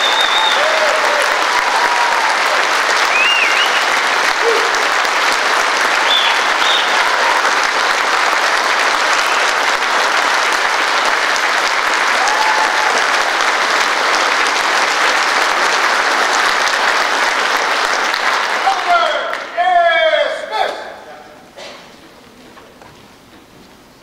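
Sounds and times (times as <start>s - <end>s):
audience applauding: 0.0s - 20.3s.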